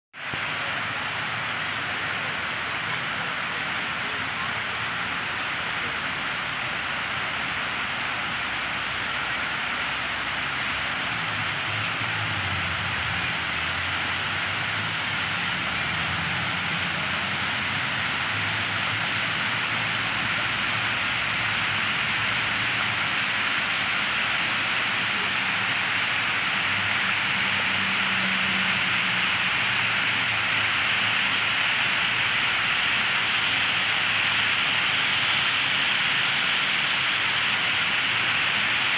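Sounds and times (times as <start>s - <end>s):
water cascading down fountain: 0.2s - 38.9s.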